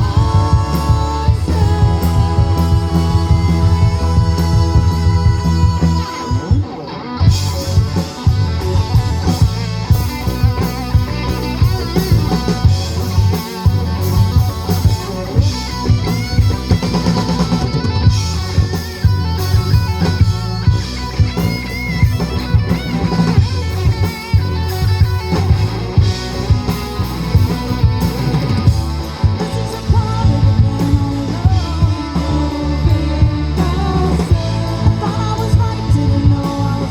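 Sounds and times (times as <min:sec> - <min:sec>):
drum kit beating: 0:00.0 - 0:06.7, 0:07.3 - 0:36.9
guitar: 0:00.0 - 0:36.9
live rock band playing: 0:00.0 - 0:36.9.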